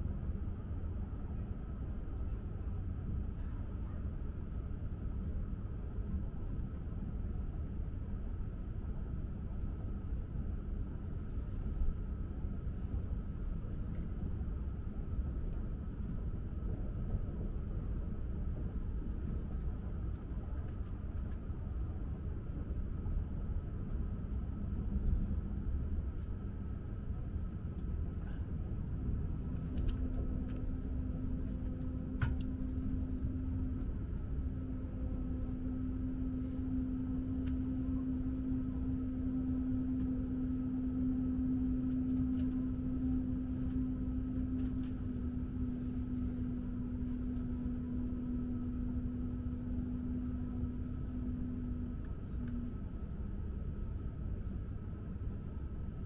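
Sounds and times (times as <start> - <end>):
train running rumble: 8.5 - 55.6.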